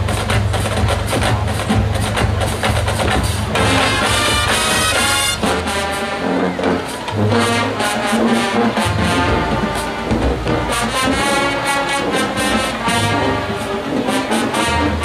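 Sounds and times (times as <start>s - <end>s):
brass chords: 0.0s - 15.0s
drumline beating: 0.0s - 15.0s.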